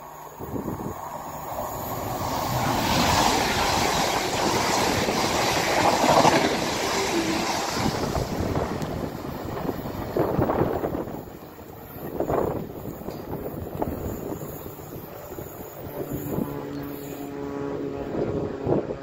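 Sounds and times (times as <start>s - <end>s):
train passing at speed: 0.0s - 19.0s
wind buffeting microphone: 0.3s - 16.7s, 17.7s - 19.0s.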